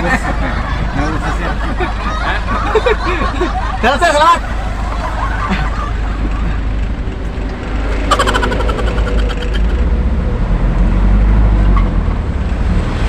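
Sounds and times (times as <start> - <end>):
truck engine low drone: 0.0 - 13.0.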